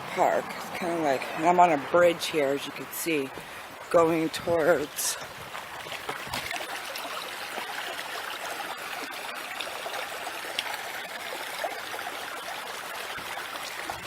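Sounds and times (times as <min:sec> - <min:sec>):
creek water babbling over rocks: 0:00.0 - 0:14.0.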